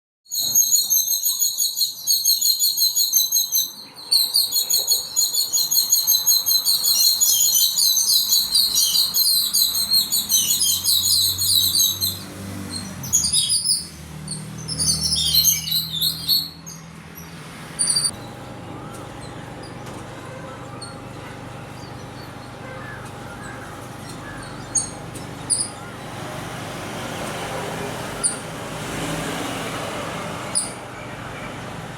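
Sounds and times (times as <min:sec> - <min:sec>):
birds chirping: 0:00.3 - 0:31.9.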